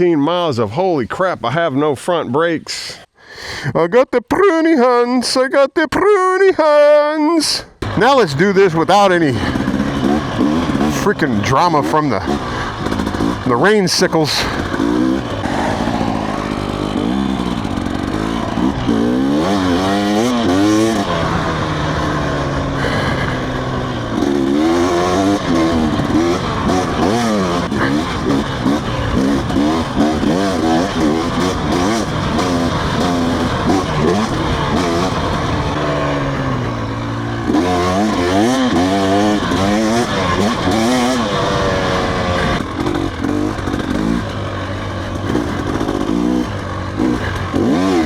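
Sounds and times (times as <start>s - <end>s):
motorcycle engine revving: 7.8s - 48.0s.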